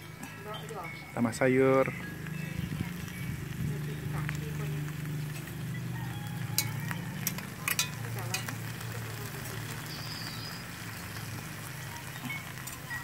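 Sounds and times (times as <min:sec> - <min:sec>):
sharp crackles: 0:00.0 - 0:13.0
meat sizzling on grill plate: 0:01.5 - 0:13.0.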